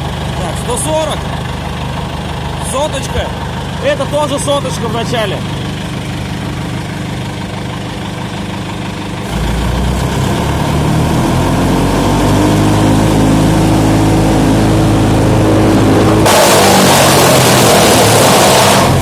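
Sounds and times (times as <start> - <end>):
chipper diesel engine running: 0.0 - 19.0.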